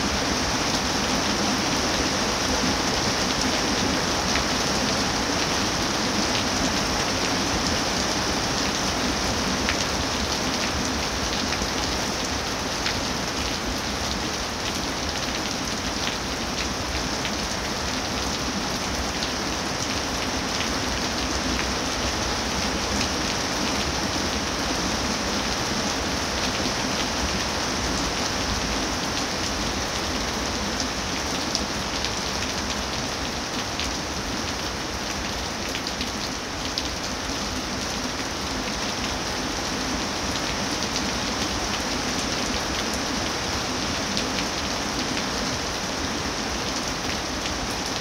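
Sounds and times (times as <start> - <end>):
rain falling on leafy trees: 0.0 - 48.0.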